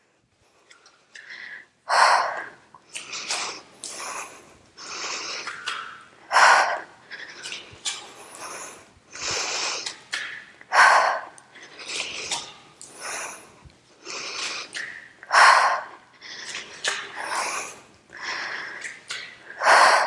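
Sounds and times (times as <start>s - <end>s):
woman breathing hard: 0.0s - 20.0s.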